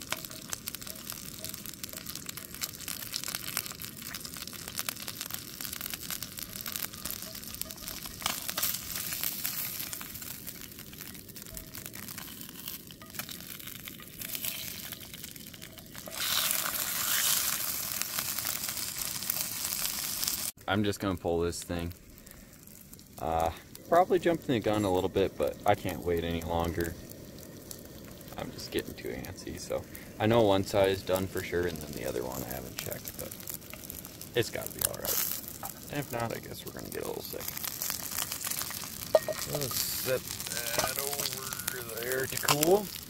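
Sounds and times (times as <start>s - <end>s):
fish sizzling in a frying pan: 0.0s - 20.6s, 21.2s - 43.0s.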